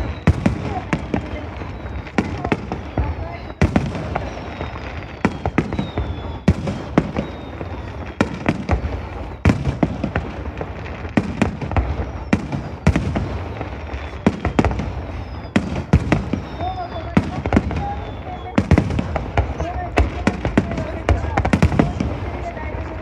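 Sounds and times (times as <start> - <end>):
fireworks bursting with loud bangs: 0.0 - 23.0.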